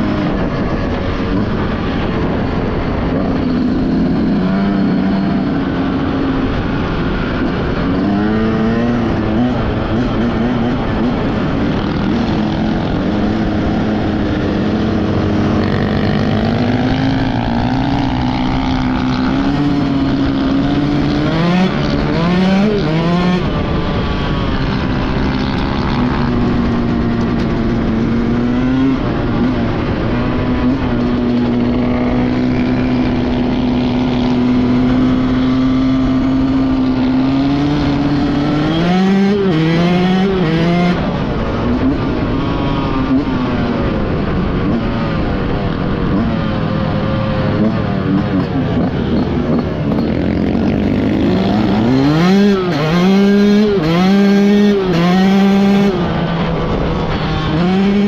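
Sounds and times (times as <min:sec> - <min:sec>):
dirt bike engine revving: 0:00.0 - 0:45.1, 0:45.9 - 0:58.0
wind rush: 0:00.0 - 0:58.0.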